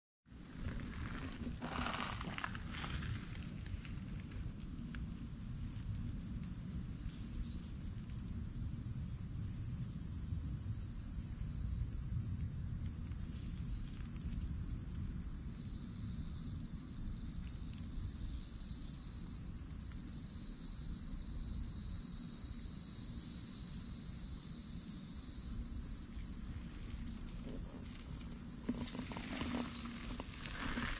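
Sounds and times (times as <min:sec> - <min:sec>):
high-pitched insect chorus: 0:00.3 - 0:30.9.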